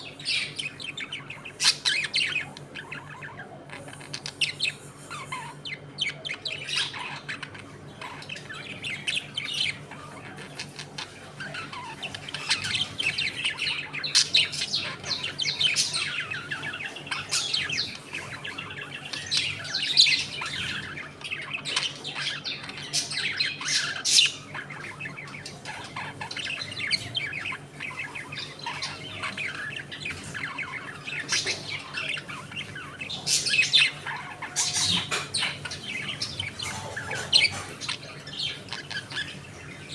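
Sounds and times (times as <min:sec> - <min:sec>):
budgerigars chattering: 0:00.0 - 0:39.9
faint low hum: 0:00.0 - 0:39.9.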